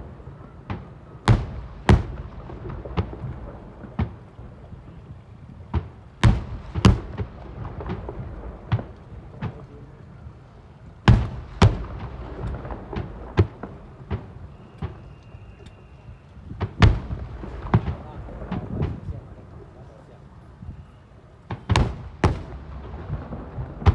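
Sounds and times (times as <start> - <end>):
fireworks bursting with booms: 0.0 - 10.2, 10.9 - 23.9.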